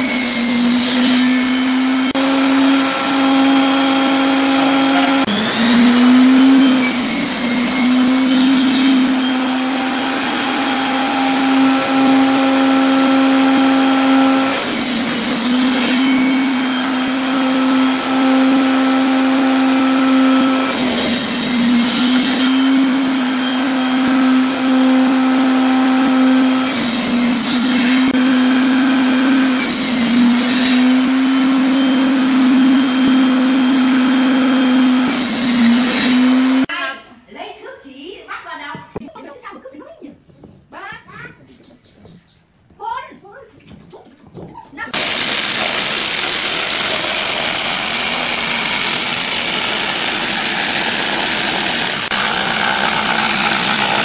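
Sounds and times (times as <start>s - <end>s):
saw cutting wood rasping: 0.0s - 36.7s, 45.0s - 54.0s
table saw humming: 0.0s - 36.7s, 45.0s - 54.0s.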